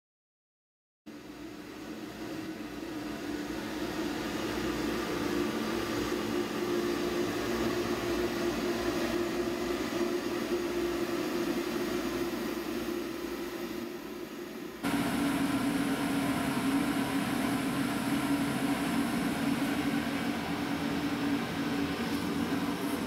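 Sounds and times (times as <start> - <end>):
mechanical hum: 1.1 - 23.0
hiss: 3.8 - 23.0.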